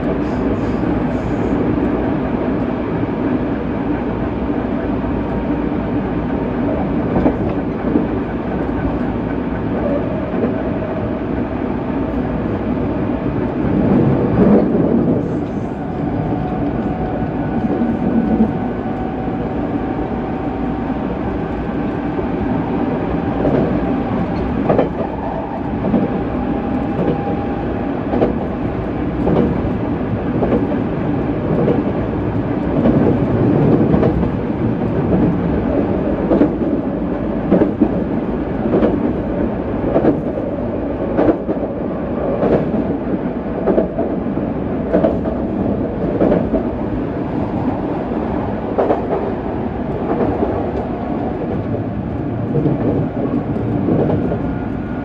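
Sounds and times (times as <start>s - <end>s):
train wheels rumbling on rail: 0.0s - 55.0s
rail joint clicks: 4.7s - 55.0s.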